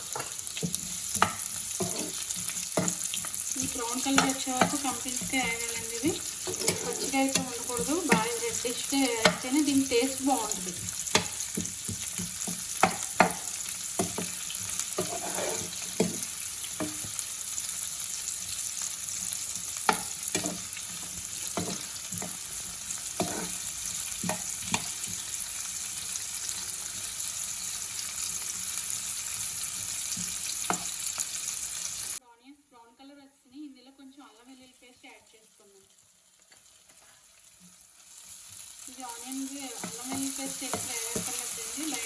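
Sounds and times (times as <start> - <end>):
onions sizzling in hot oil: 0.0 - 32.2, 34.2 - 42.0.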